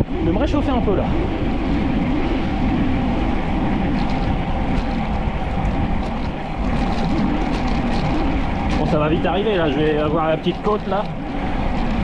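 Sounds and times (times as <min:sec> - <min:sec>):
tyres humming on tarmac: 0:00.0 - 0:12.0
wind rush on microphone: 0:00.0 - 0:12.0.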